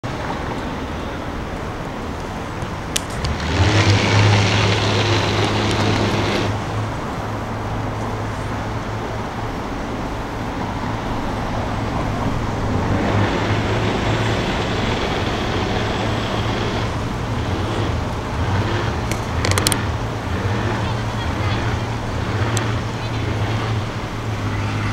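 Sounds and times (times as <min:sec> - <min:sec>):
engine humming: 0:00.0 - 0:24.9
outdoor noise: 0:00.0 - 0:24.9.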